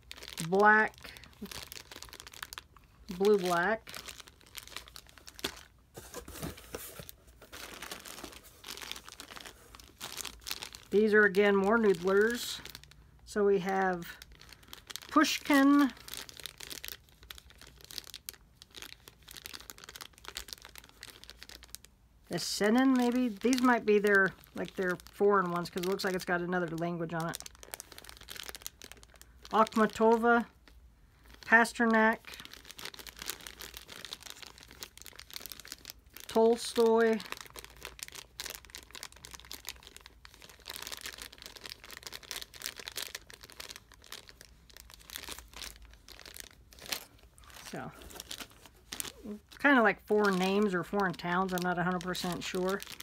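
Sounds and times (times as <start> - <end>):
plastic bag crinkling: 0.0 - 53.0.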